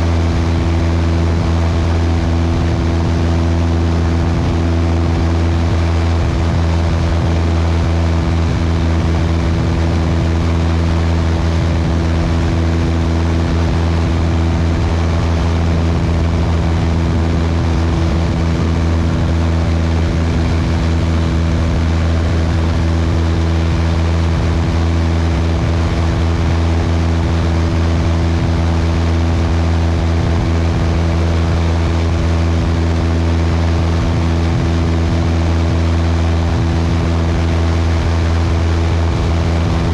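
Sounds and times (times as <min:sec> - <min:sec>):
airplane engine droning in flight: 0:00.0 - 0:39.9.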